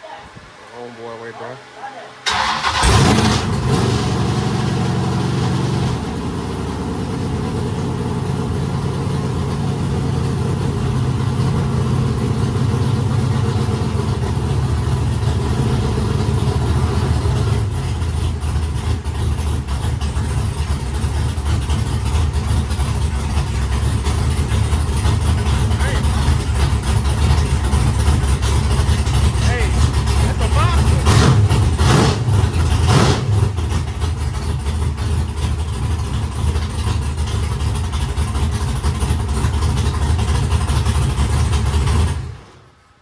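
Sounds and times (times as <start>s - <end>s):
car engine starting and idling: 0.8s - 43.0s.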